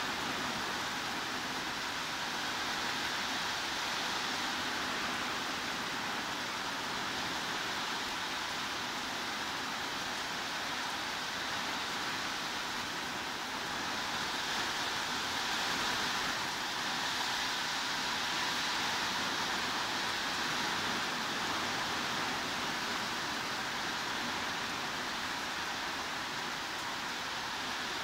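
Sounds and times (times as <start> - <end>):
heavy rain hissing: 0.0 - 28.0.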